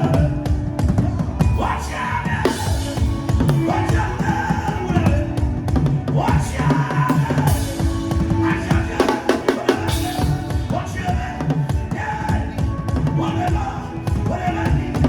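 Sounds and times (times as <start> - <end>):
loud drumming: 0.0 - 15.0
person singing: 0.0 - 15.0.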